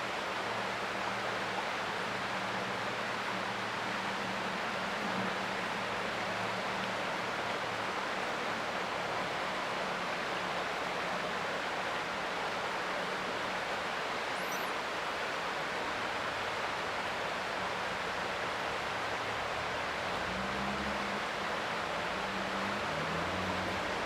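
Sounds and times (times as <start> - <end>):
creek water running: 0.0 - 24.0.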